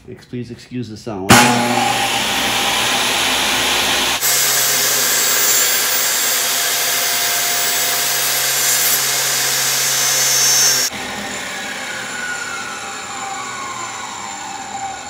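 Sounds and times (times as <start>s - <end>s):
table saw cutting: 1.3s - 15.0s.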